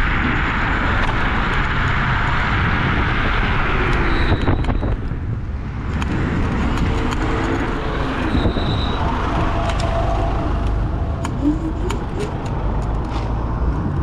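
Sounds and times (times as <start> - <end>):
city traffic passing: 0.0 - 14.0
wind rushing over microphone: 0.0 - 14.0.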